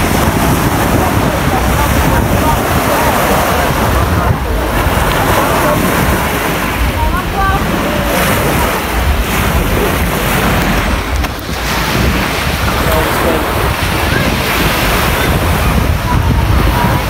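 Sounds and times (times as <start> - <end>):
small waves washing on shore: 0.0 - 17.0
wind buffeting microphone: 0.0 - 17.0.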